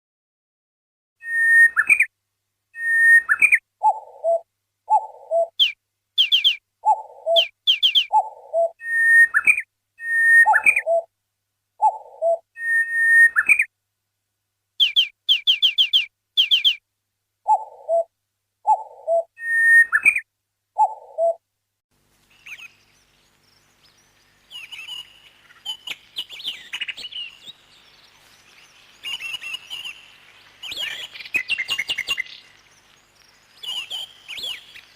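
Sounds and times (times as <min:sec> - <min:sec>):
whistled bird calls: 0:01.2 - 0:02.1, 0:02.8 - 0:11.1, 0:11.8 - 0:13.7, 0:14.8 - 0:16.8, 0:18.7 - 0:21.4, 0:22.3 - 0:34.9
background hiss: 0:01.2 - 0:34.9
birds chirping: 0:02.8 - 0:11.1, 0:11.8 - 0:13.7, 0:14.8 - 0:16.8, 0:17.4 - 0:20.2, 0:20.8 - 0:21.4, 0:22.2 - 0:34.9.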